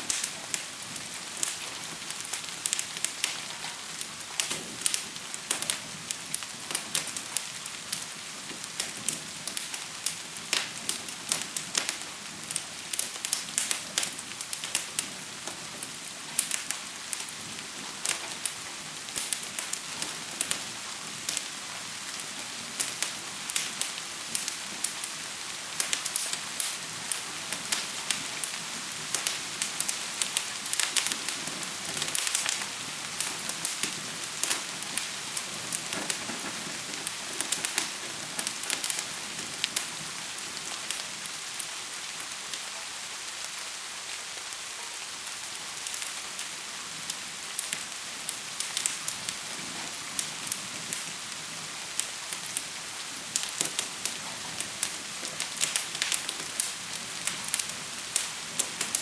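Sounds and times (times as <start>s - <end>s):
fire crackling and popping: 0.0s - 59.0s
gentle rain hiss: 0.0s - 59.0s.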